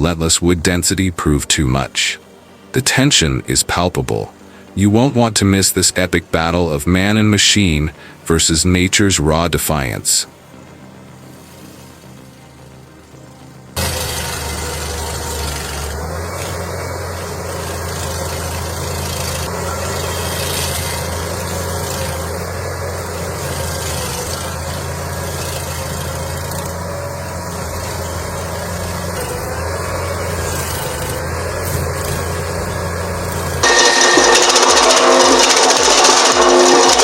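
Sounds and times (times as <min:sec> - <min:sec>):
heavy machine engine humming: 0:00.0 - 0:37.0.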